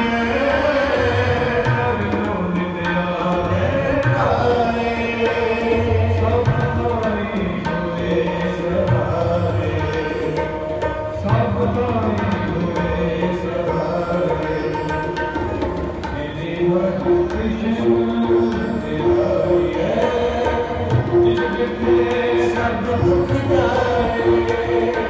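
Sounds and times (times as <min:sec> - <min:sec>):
harmonium chords: 0:00.0 - 0:25.0
tabla rhythm: 0:00.0 - 0:25.0.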